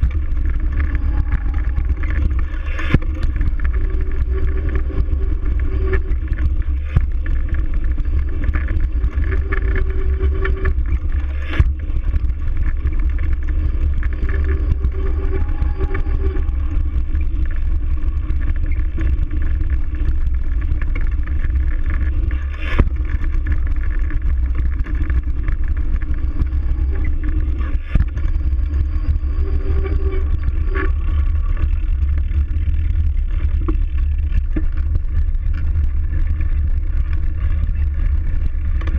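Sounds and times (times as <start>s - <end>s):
bicycle tyre noise: 0.0s - 38.9s.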